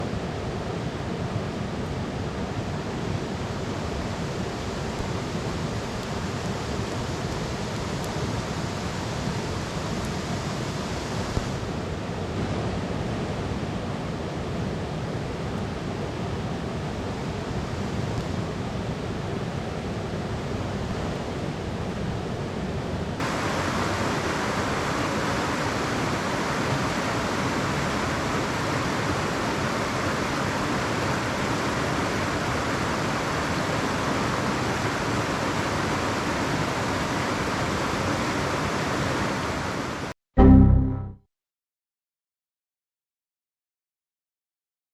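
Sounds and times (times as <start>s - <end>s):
mountain stream rushing: 0.0s - 22.1s, 23.2s - 40.2s.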